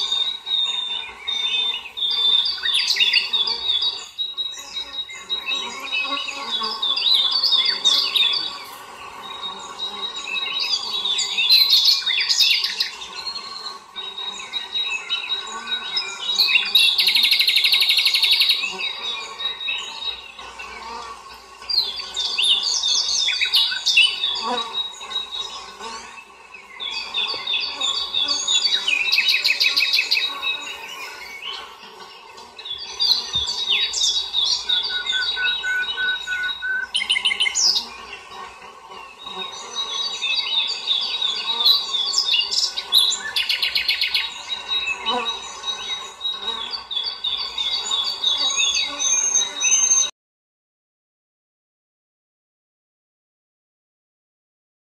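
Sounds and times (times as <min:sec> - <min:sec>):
songbirds singing: 0:00.0 - 0:50.1.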